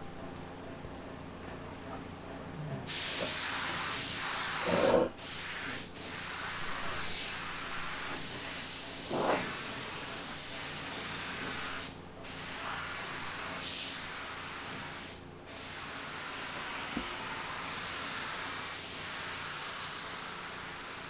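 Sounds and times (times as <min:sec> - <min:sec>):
paint spray gun hissing: 0:02.9 - 0:21.0.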